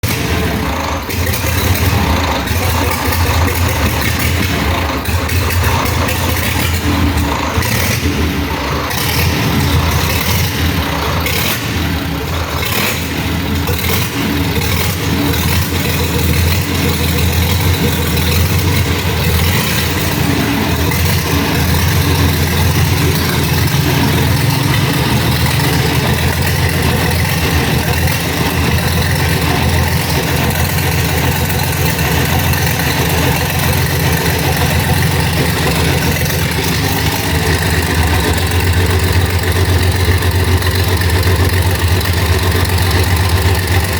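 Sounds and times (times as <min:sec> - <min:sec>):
diesel bus engine idling: 0:00.0 - 0:43.9.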